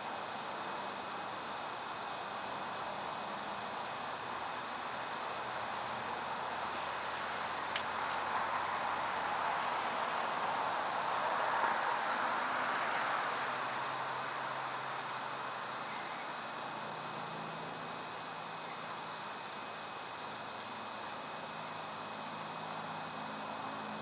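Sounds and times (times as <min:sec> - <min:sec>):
faint low engine hum: 0:00.0 - 0:24.0.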